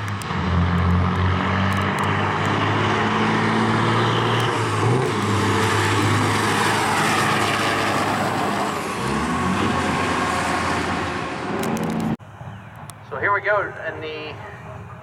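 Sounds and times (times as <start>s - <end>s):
truck diesel engines at full throttle: 0.0s - 15.0s.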